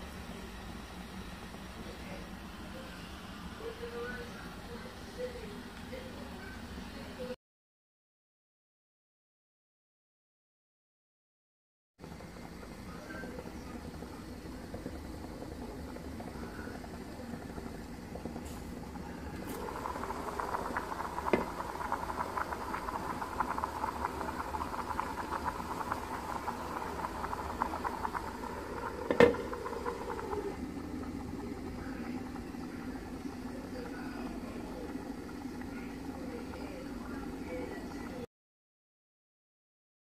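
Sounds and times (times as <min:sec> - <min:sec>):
water boiling and bubbling: 0:00.0 - 0:07.2, 0:12.0 - 0:38.3.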